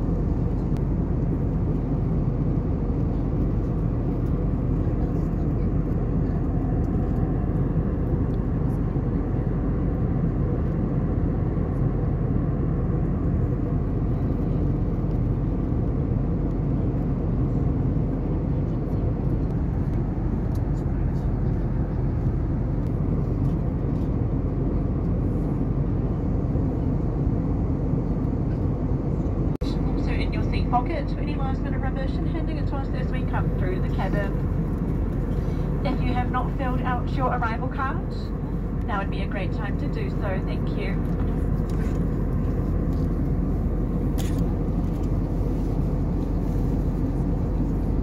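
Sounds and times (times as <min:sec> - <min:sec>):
airliner cabin engine rush: 0:00.0 - 0:48.0.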